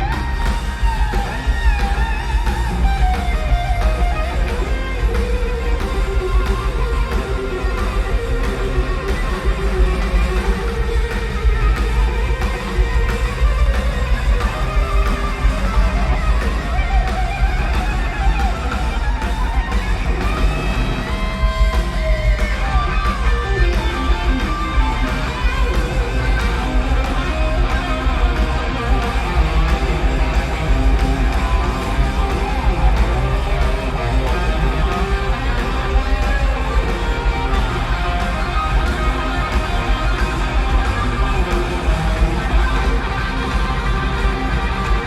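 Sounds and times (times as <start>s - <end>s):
electric guitar bending notes: 0.0s - 45.0s
live rock band playing: 0.0s - 45.0s.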